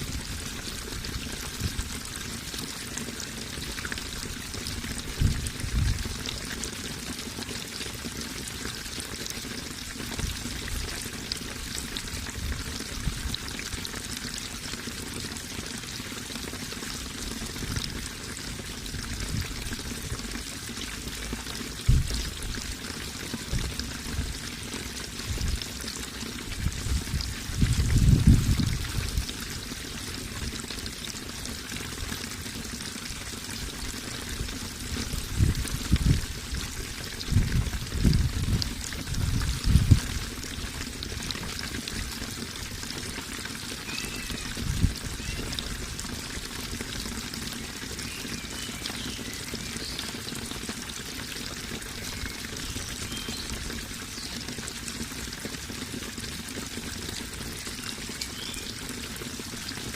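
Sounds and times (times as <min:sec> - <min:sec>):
running water splashing: 0:00.0 - 0:59.9.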